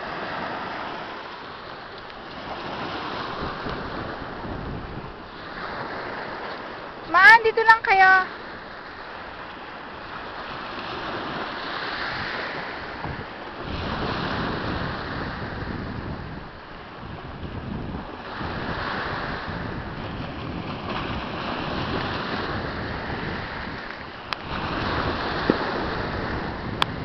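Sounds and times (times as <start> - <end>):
surf on pebbly shore: 0.0 - 27.0
wind rumble on microphone: 0.0 - 27.0.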